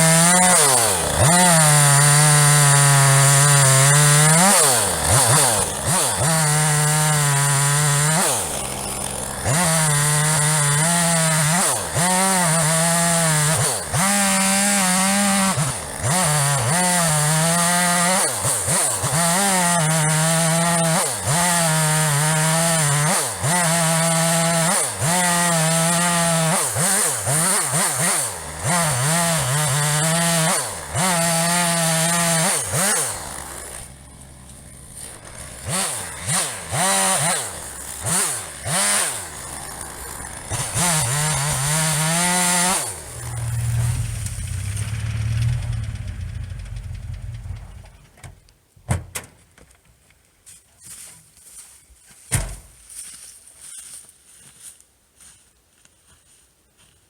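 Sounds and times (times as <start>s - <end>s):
chainsaw cutting wood: 0.0s - 48.4s.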